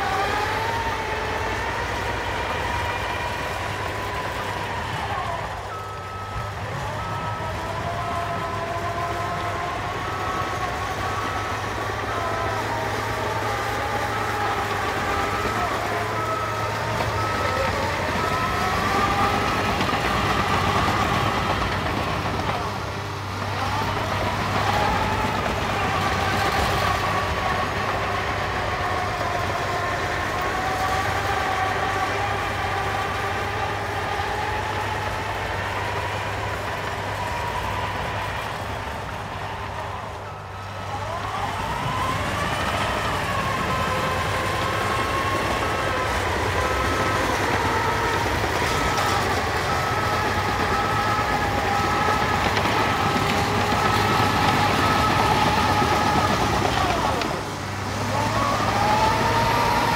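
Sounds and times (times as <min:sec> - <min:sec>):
diesel engine running with whine: 0:00.0 - 0:59.9.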